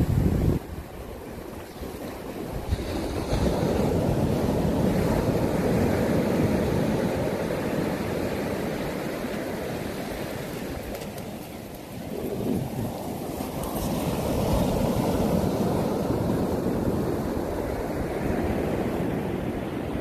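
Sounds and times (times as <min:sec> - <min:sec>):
ocean surf washing up beach: 0:00.0 - 0:20.0
wind rumbling on microphone: 0:00.0 - 0:20.0.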